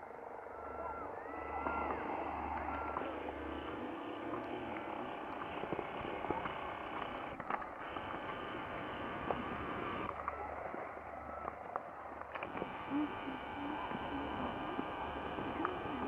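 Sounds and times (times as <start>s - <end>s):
distant sea: 0.0s - 16.0s
wind: 0.0s - 16.0s
faint clicks: 1.6s - 16.0s.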